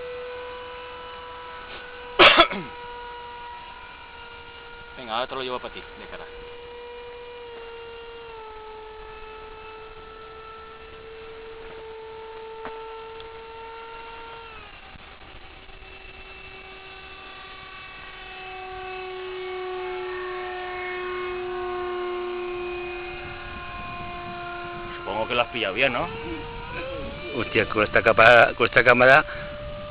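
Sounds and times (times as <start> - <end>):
model jet fan whining: 0.0 - 29.9.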